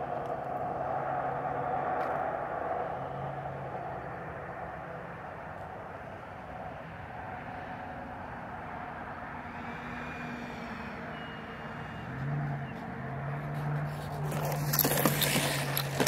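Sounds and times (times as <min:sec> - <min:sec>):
steady outdoor rumble: 0:00.0 - 0:16.0.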